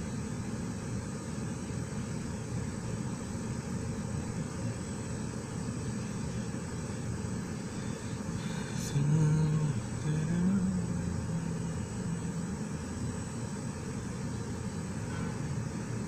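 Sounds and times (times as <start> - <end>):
low pitched hum: 0.0 - 16.0.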